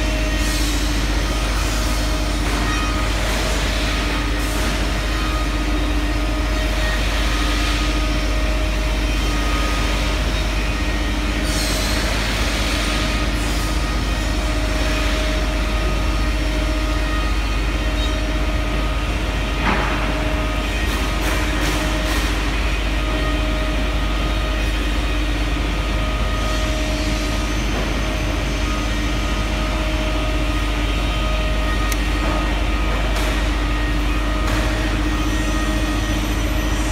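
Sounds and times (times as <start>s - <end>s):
machinery humming: 0.0s - 36.9s.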